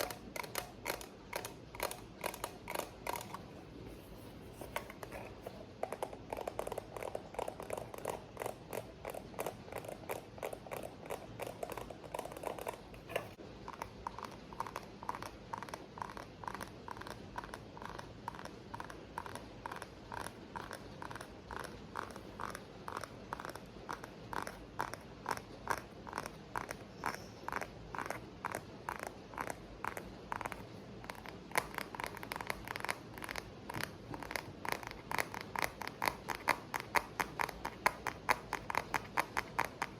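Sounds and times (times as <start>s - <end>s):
fingers tapping on objects: 0.0s - 3.5s, 4.6s - 39.9s.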